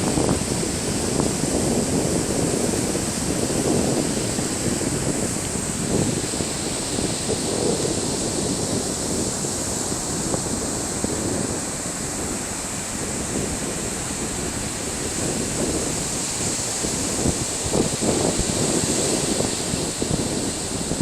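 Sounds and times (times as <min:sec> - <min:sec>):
ocean surf rushing: 0:00.0 - 0:21.0
wind buffeting microphone: 0:00.0 - 0:21.0.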